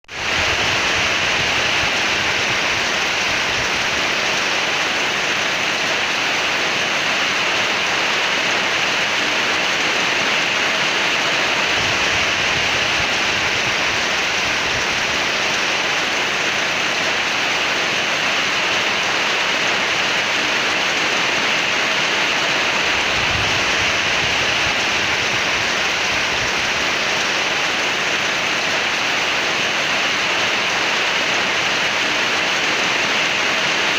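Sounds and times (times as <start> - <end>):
rain falling on leaves: 0.2 - 33.9.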